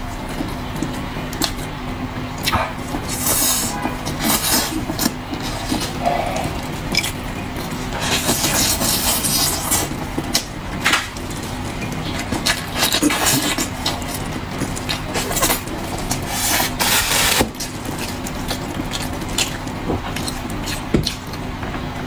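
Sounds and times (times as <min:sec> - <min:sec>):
low background hum: 0:00.0 - 0:22.0
person chewing and smacking: 0:00.2 - 0:01.7, 0:02.4 - 0:21.6.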